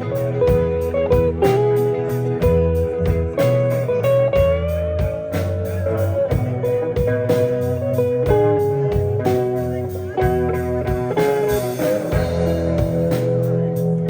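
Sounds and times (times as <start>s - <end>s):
bass: 0.0s - 14.0s
electric guitar with pitch bends: 0.0s - 14.0s
steady drum beat: 0.0s - 14.0s.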